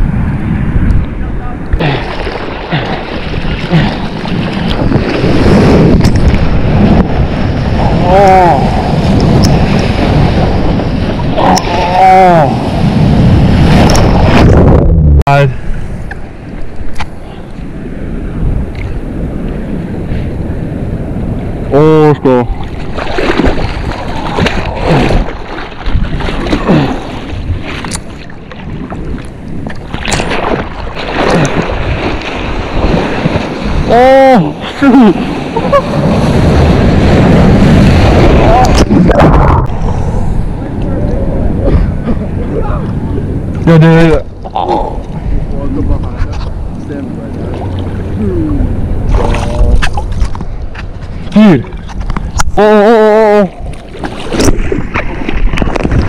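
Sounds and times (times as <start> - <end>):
ocean surf splashing: 0.0 - 56.0
wind buffeting microphone: 0.0 - 56.0.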